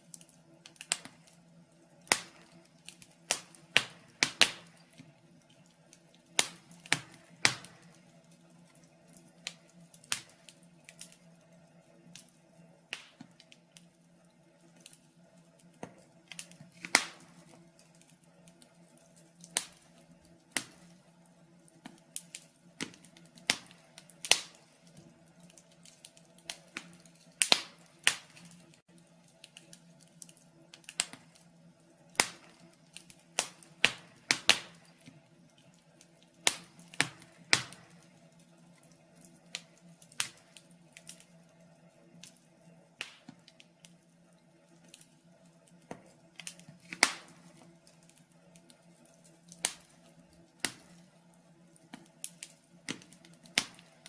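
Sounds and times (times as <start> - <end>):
faint steady hum: 0.0 - 54.0
wood fire crackling and popping: 0.0 - 54.0.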